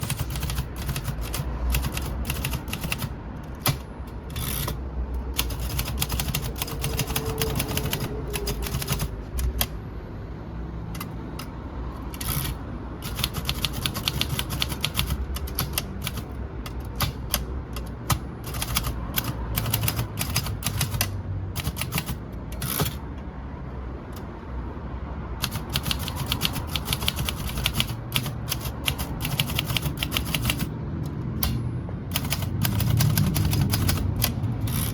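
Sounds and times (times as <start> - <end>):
manual typewriter typing: 0.0 - 9.8, 11.0 - 23.1, 25.4 - 34.9.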